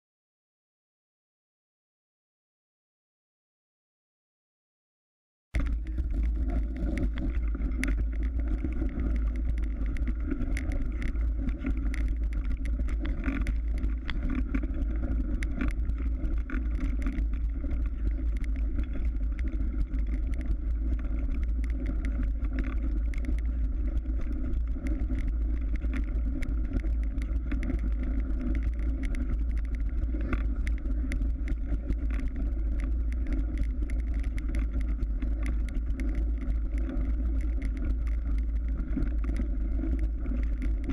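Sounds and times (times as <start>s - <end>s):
bike tyres rumbling on snow: 5.6s - 40.9s
small clicks and rattles: 5.6s - 40.9s.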